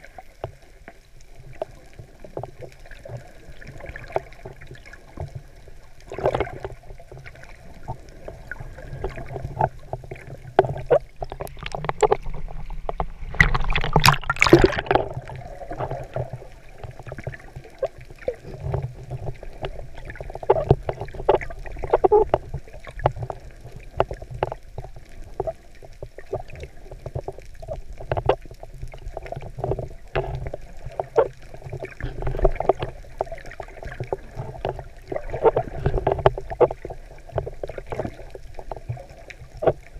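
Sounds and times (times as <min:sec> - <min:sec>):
muffled underwater rush: 0:00.0 - 0:39.9.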